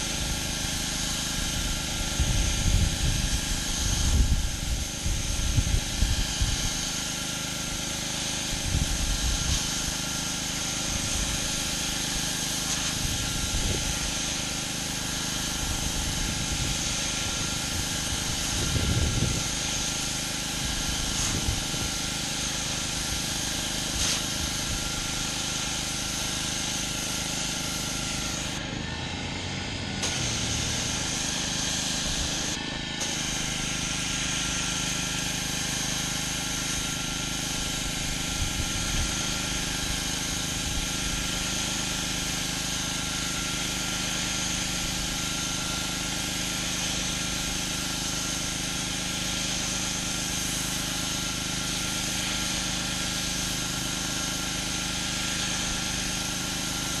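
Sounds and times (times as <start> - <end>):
pressure washer engine running: 0.0 - 57.0
water jet hissing on concrete: 0.0 - 57.0.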